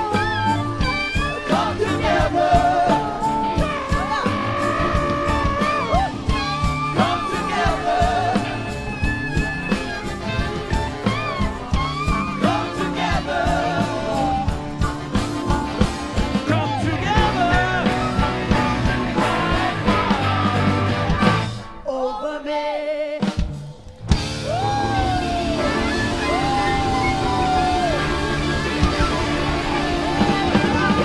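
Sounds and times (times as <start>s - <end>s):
rock music with singing: 0.0s - 31.0s.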